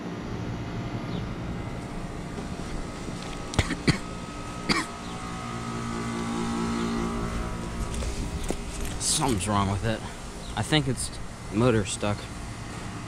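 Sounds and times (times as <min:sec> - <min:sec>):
heat pump compressor and fan hum: 0:00.0 - 0:13.0.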